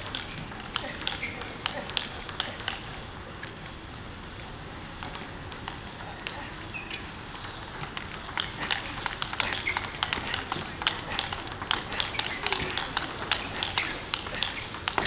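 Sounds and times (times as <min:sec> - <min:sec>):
table tennis ball clicking: 0:00.0 - 0:03.7, 0:05.0 - 0:15.0.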